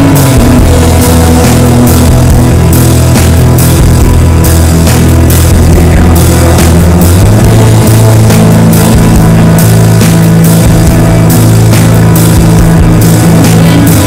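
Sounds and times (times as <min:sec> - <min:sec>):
bass guitar: 0:00.0 - 0:14.0
dense wall of guitars: 0:00.0 - 0:14.0
drum kit steady beat: 0:00.0 - 0:14.0.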